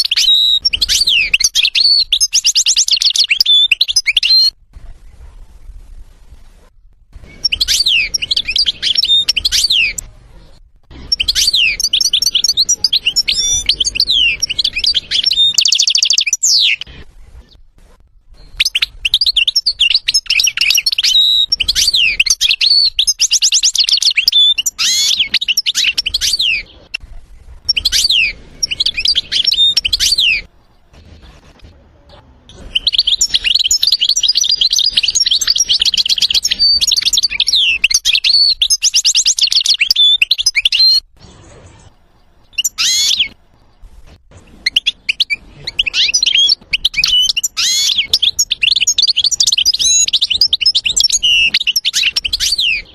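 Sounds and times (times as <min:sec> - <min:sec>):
goldfinch singing: 0:00.0 - 0:04.6, 0:07.2 - 0:10.1, 0:10.9 - 0:17.6, 0:18.4 - 0:26.9, 0:27.6 - 0:30.8, 0:32.5 - 0:41.0, 0:42.2 - 0:43.4, 0:44.6 - 0:52.9.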